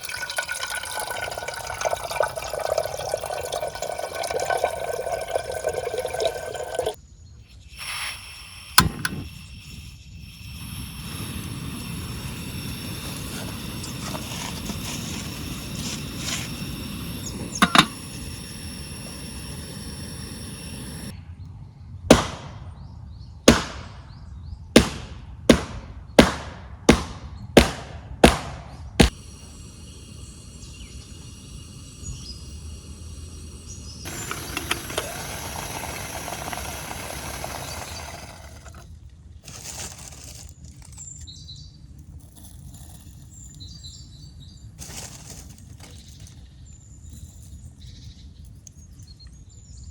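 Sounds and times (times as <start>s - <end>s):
outdoor background: 0.0s - 49.9s.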